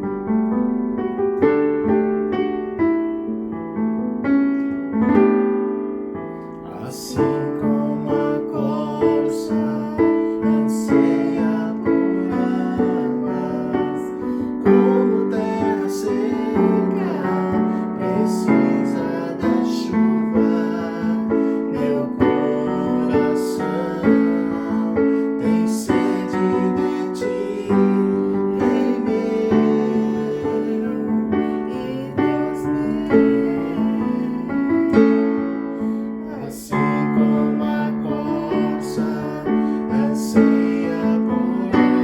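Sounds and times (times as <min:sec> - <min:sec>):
slow piano chords: 0:00.0 - 0:42.0.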